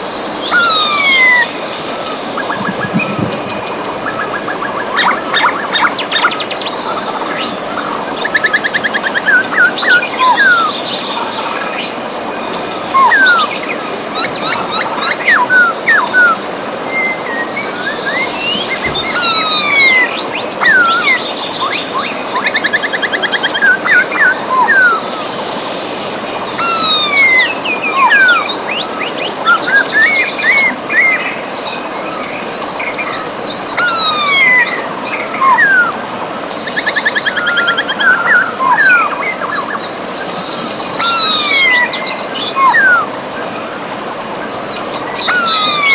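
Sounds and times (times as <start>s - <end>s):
birds chirping and singing: 0.0s - 45.9s
river water rushing: 0.0s - 45.9s.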